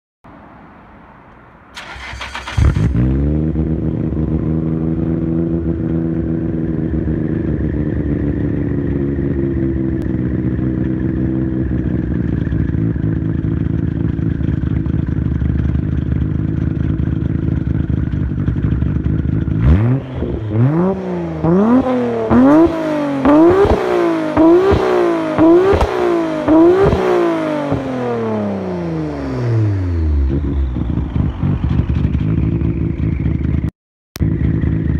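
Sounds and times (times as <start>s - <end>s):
car engine idling and revving: 0.3s - 34.9s.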